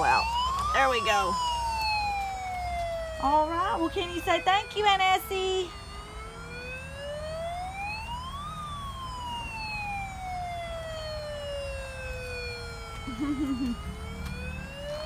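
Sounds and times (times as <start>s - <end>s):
toy electronic siren wailing: 0.0s - 15.0s.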